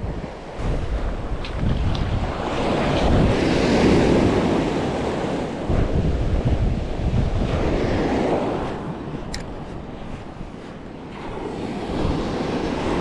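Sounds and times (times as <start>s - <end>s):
surf breaking on sand: 0.0s - 13.0s
wind buffeting microphone: 0.0s - 13.0s.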